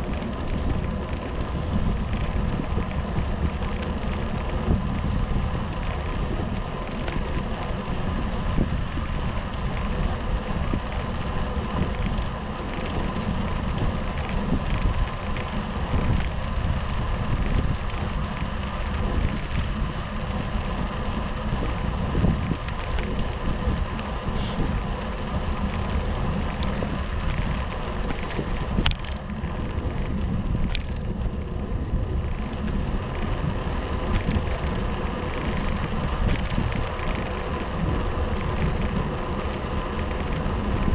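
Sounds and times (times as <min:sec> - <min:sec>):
tyres rolling on tarmac: 0:00.0 - 0:40.9
wind buffeting microphone: 0:00.0 - 0:40.9.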